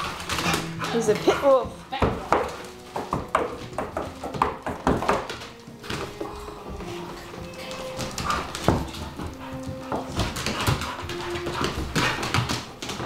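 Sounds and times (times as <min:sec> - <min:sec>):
paws scrabbling on tile floor: 0:00.0 - 0:13.0.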